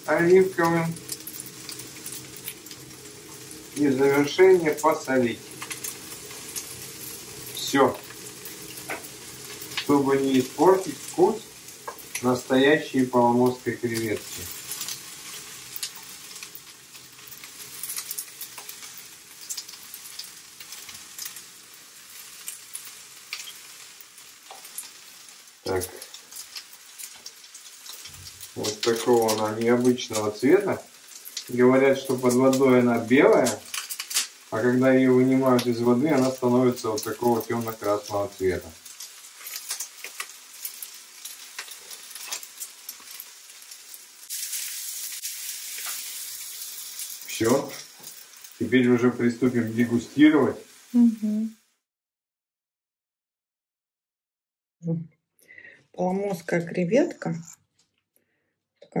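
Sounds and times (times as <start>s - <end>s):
oil crackling and popping: 0.0s - 51.0s
prawns sizzling in frying pan: 0.0s - 51.8s.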